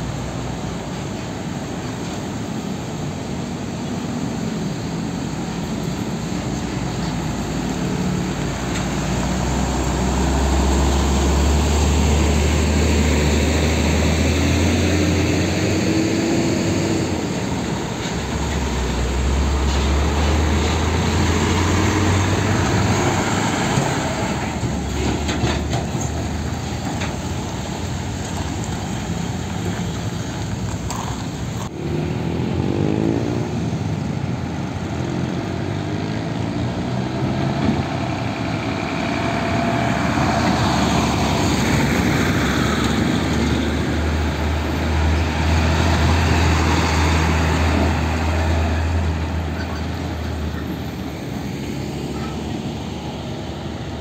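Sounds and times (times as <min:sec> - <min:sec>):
diesel trucks passing: 0:00.0 - 0:54.0
truck engine revving: 0:06.8 - 0:54.0.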